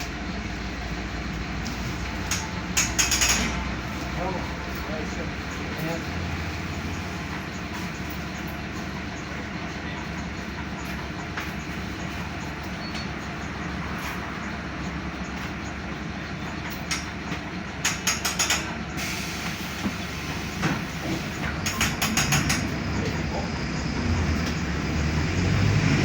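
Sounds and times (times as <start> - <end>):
bus body rattling: 0.0 - 25.5
bus diesel engine running: 0.0 - 26.0.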